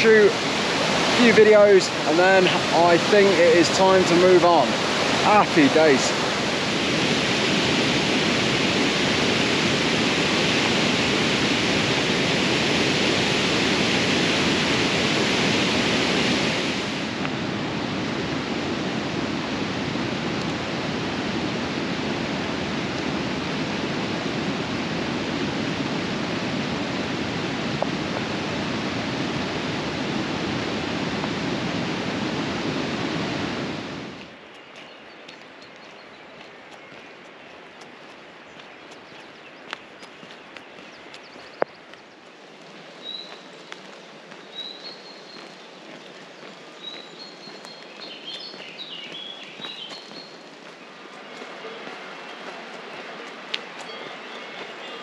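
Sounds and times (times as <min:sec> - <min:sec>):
waterfall rushing: 0:00.0 - 0:34.4, 0:42.6 - 0:55.0.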